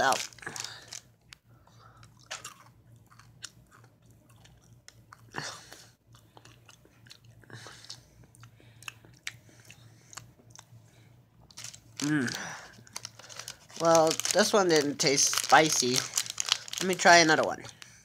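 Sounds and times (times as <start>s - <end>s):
person chewing crunchy candy: 0.0s - 10.8s, 11.4s - 18.0s.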